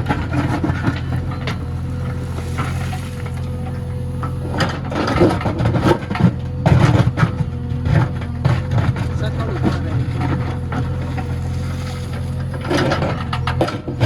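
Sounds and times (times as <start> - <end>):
diesel engine running: 0.0 - 14.0
digging knocks and clanks: 0.0 - 14.0.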